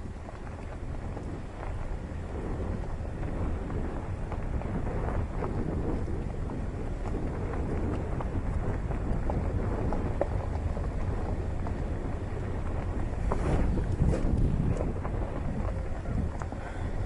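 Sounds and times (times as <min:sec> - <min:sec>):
car rumbling over dirt track: 0:00.0 - 0:17.0.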